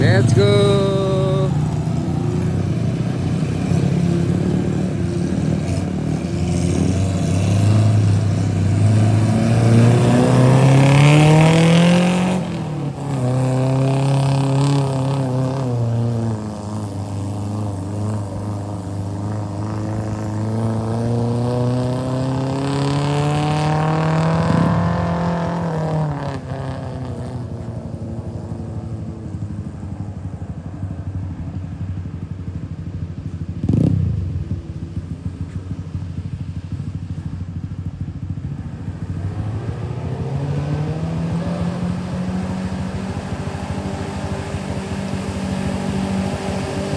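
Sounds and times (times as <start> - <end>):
off-road vehicle engine accelerating: 0.0 - 46.9.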